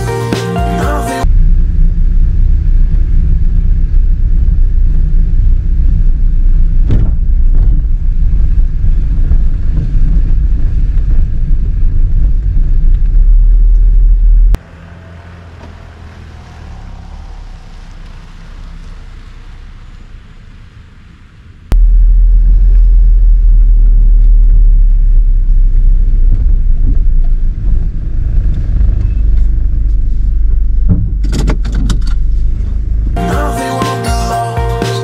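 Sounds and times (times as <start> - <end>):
vehicle low rumble: 1.2 - 33.2.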